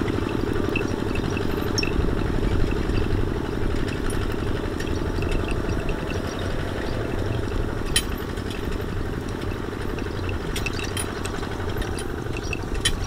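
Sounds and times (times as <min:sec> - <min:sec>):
diesel engine chugging: 0:00.0 - 0:13.0
light rattles: 0:00.0 - 0:13.0.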